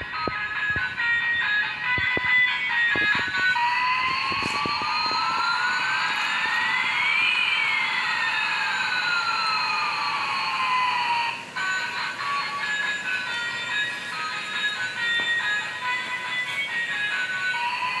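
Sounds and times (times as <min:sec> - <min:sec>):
toy jingle: 0:00.0 - 0:18.0
toy siren-like rising and falling tones: 0:00.0 - 0:18.0.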